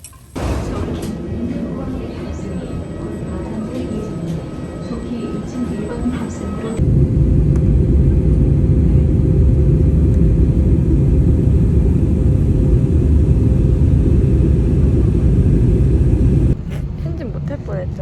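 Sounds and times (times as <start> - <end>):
mid-pitched hum: 0.4 - 18.0.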